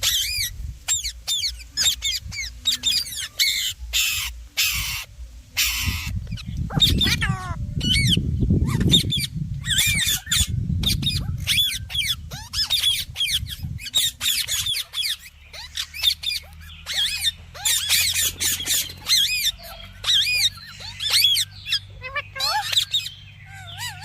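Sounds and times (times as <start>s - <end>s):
parakeet squawking: 0.0s - 24.0s.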